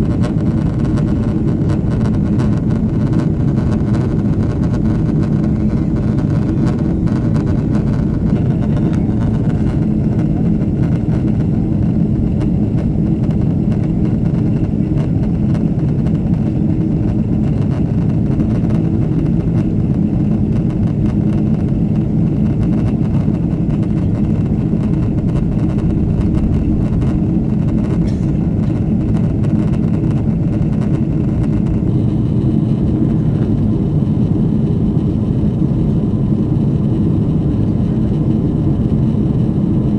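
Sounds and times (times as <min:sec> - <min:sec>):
airplane cabin engine drone: 0:00.0 - 0:39.9
steady hum: 0:00.0 - 0:39.9.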